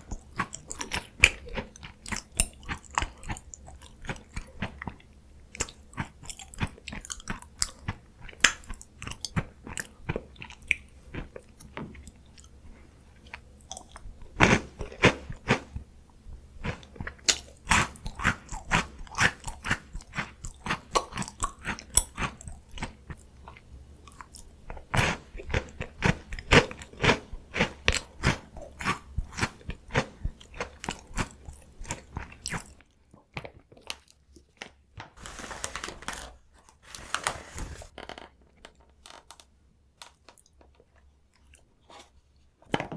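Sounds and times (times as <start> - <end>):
chewing and crunching snacks: 0.0 - 35.4, 38.7 - 42.5.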